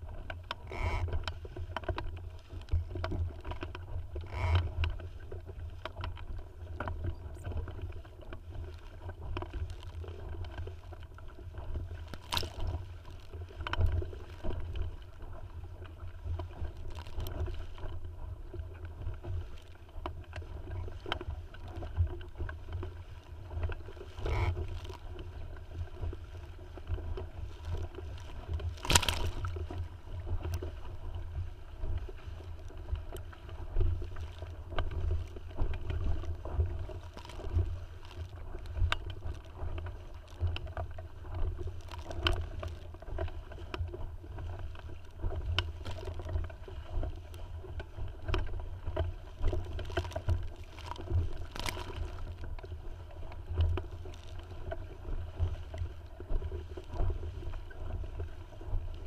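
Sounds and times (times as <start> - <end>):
water lapping against hull: 0.0 - 59.0
wind rumble on microphone: 0.0 - 59.0.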